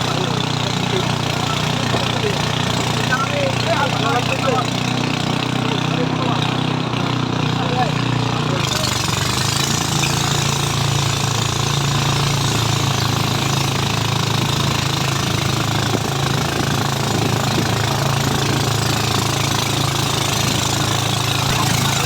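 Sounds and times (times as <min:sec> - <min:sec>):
engine running steadily: 0:00.0 - 0:22.0
rattling clatter: 0:00.0 - 0:22.0.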